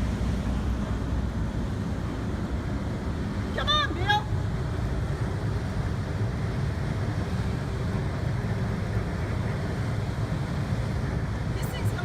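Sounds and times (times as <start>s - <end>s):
ship low rumble: 0.0s - 12.0s.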